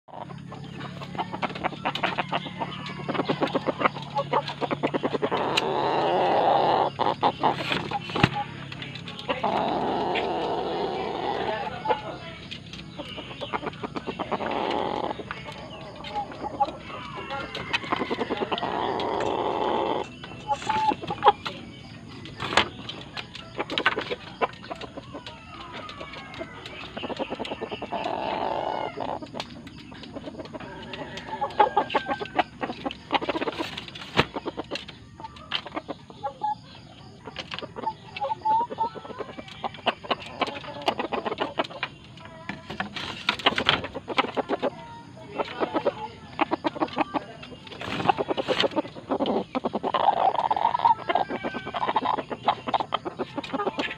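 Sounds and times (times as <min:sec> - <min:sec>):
rooster clucking: 0:00.1 - 0:53.9.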